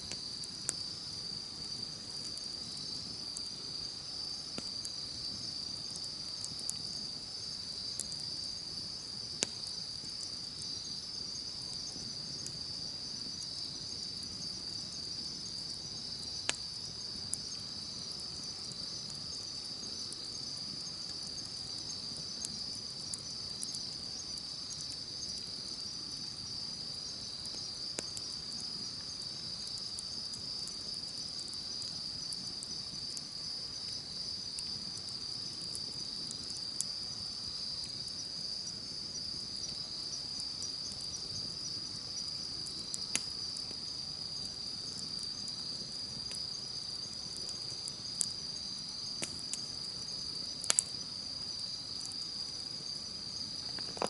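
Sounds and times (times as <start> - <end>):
campfire crackling and popping: 0.0 - 54.0
insects chirring: 0.0 - 54.0.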